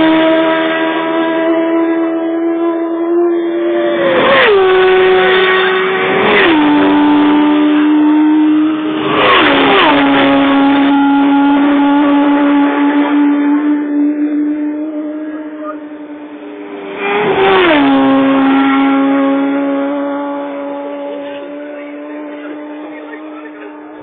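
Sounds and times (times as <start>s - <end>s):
high engine note: 0.0s - 24.0s
racing motorcycles passing: 0.0s - 24.0s.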